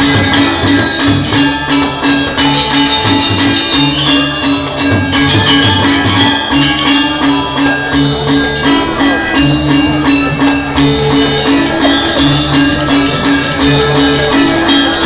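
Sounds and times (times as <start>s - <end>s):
fast cymbal clashing: 0.0s - 15.0s
metallophones ringing melody: 0.0s - 15.0s.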